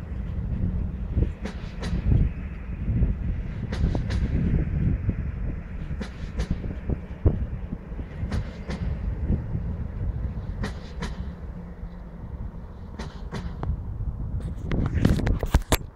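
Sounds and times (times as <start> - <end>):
train wheels rumbling on rail: 0.0 - 15.9.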